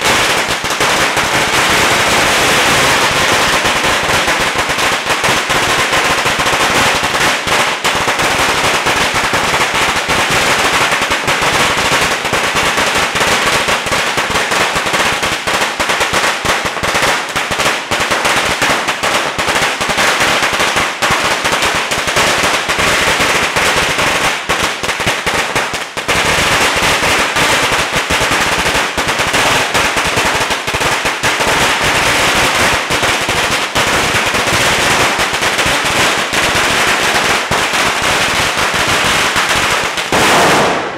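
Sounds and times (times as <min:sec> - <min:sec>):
string of firecrackers banging: 0:00.0 - 0:40.9.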